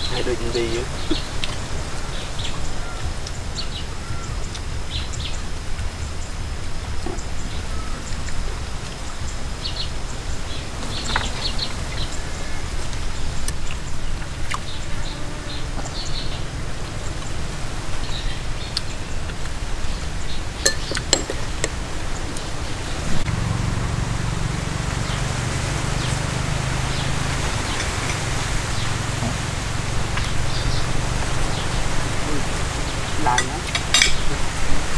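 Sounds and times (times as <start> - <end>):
background hiss and rumble: 0.0 - 34.9
birds chirping: 0.0 - 34.9.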